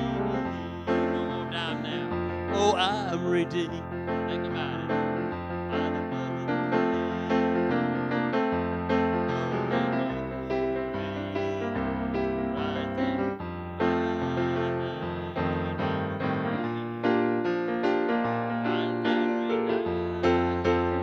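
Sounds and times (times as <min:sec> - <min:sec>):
piano playing hymn chords: 0:00.0 - 0:21.0.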